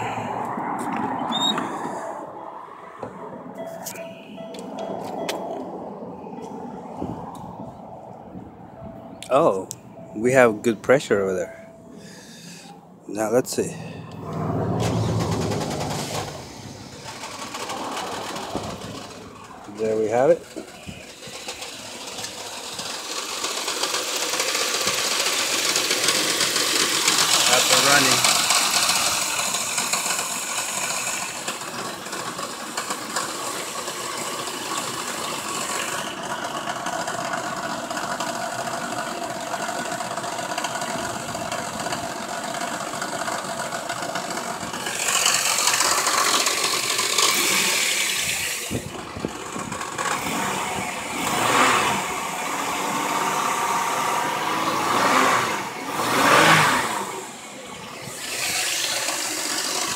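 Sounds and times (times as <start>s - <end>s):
car engine running: 0.0s - 2.3s, 3.0s - 59.9s.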